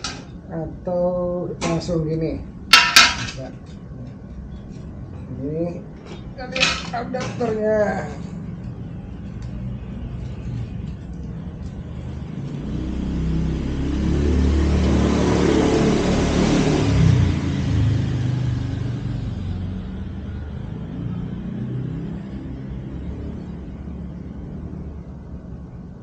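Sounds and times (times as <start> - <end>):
road noise: 0.0 - 26.0
motor vehicle passing by: 3.4 - 26.0.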